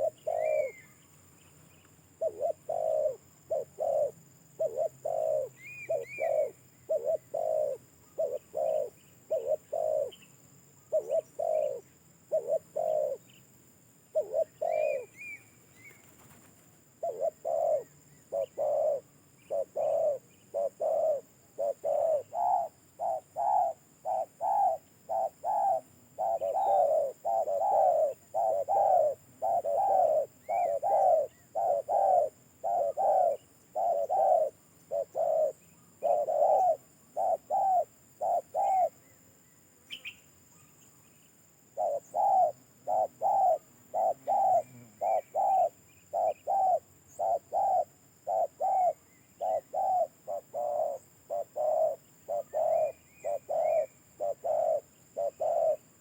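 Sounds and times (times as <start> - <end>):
dove cooing: 0.0 - 1.0, 2.1 - 10.3, 10.9 - 13.4, 14.1 - 39.1, 41.7 - 56.0
small bird chirping: 0.0 - 56.0.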